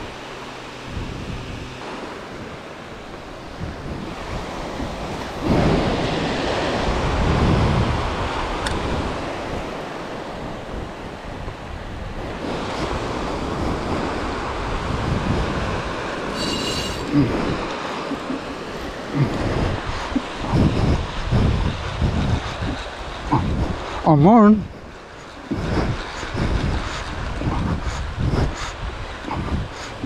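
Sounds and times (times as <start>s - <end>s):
small waves breaking on sand: 0.0s - 30.0s
wind buffeting microphone: 0.0s - 30.0s.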